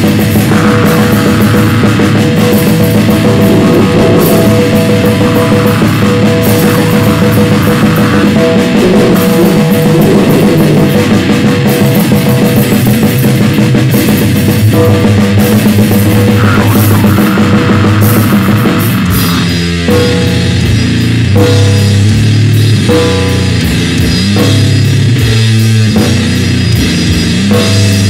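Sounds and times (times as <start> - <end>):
drum kit playing loudly: 0.0 - 28.0
heavily distorted guitar: 0.0 - 28.0.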